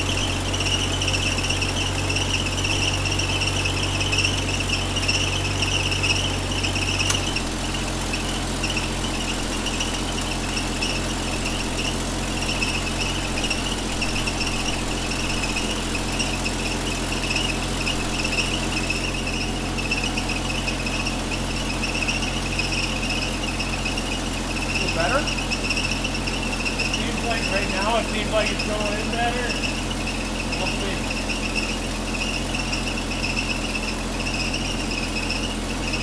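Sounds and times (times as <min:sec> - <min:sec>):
car engine running: 0:00.0 - 0:36.0
drive belt squealing: 0:00.0 - 0:36.0.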